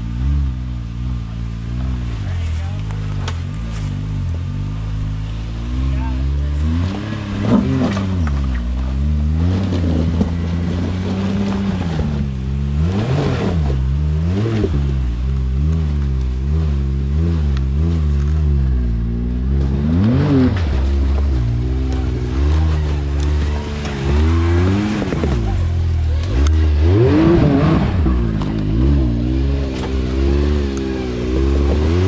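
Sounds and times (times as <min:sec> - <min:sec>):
utility vehicle engine revving: 0:00.0 - 0:32.0.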